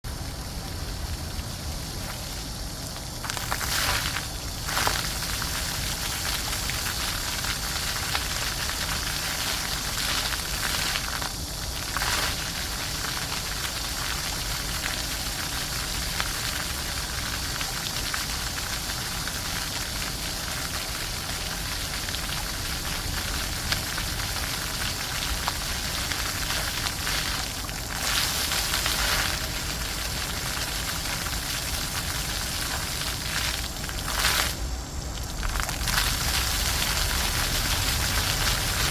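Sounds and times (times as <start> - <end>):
fountain water splashing: 0.1 - 38.9.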